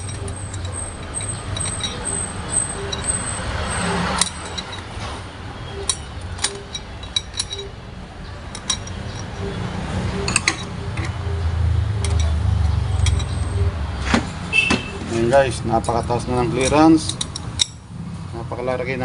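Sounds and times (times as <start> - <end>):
metal clutch plates clinking: 0.0 - 18.1.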